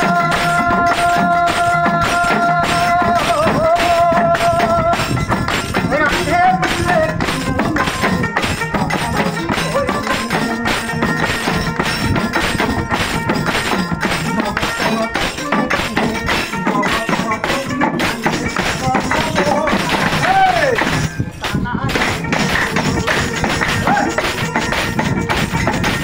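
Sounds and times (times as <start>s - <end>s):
men singing folk song: 0.0s - 25.6s
people clapping: 0.0s - 26.0s.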